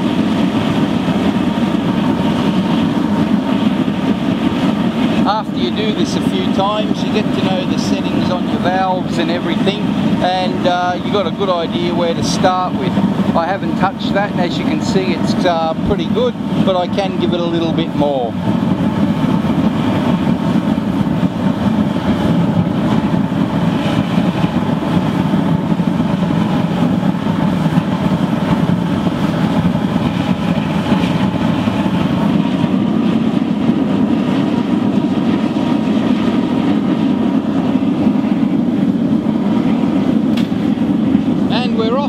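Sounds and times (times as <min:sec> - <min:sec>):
deep rumble of burner flame: 0:00.0 - 0:42.0.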